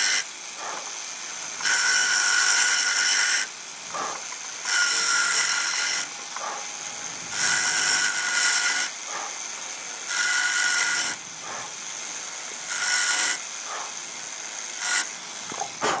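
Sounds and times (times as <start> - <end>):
power checkering tool whining: 0.0 - 16.0.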